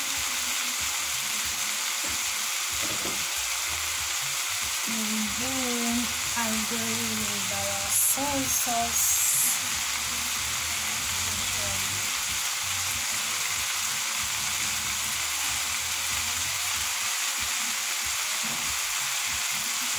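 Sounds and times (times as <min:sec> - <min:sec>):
stir fry sizzling in a pan: 0:00.0 - 0:19.9.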